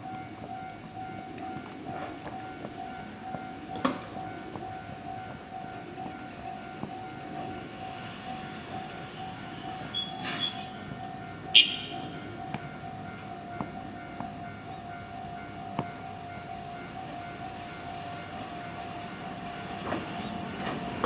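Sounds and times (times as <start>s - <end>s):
train wheels squealing: 0.0s - 15.4s, 16.0s - 21.0s
train passing on rails: 0.0s - 21.0s.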